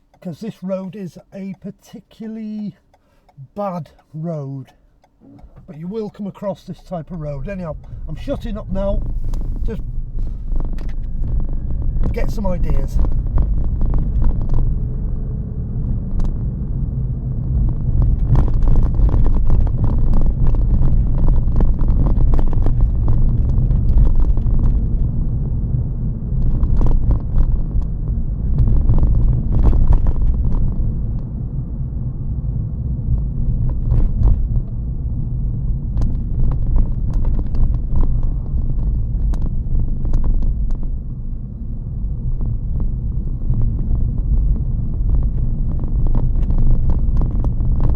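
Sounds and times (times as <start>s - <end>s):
tyre road rumble: 0.0s - 47.9s.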